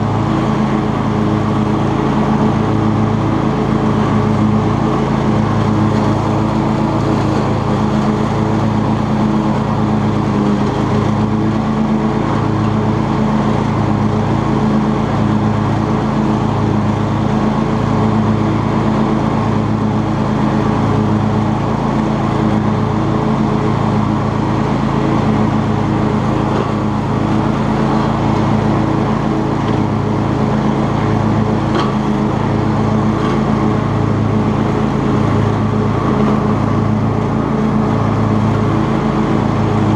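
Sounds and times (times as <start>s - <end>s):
lawn tractor engine mowing: 0.0s - 39.9s.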